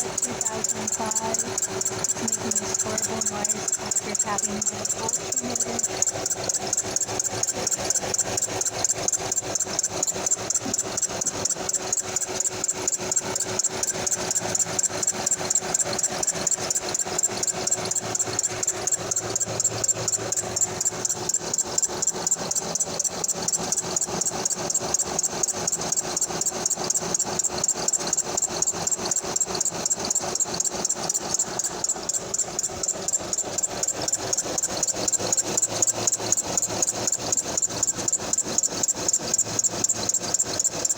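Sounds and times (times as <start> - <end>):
rhythmic ticking knock from belt: 0.0 - 40.9.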